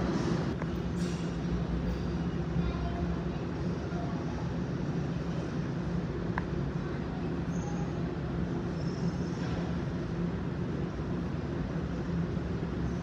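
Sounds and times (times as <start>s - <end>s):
subway train rumbling in tunnel: 0.0s - 13.0s.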